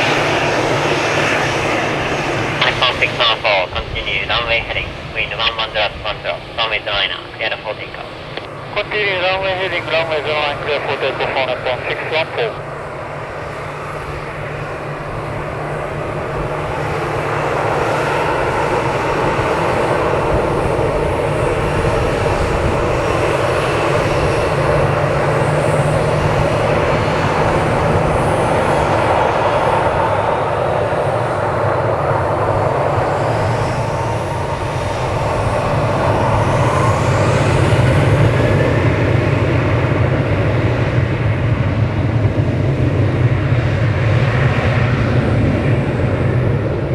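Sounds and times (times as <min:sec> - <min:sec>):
jet engines at takeoff thrust: 0:00.0 - 0:46.9.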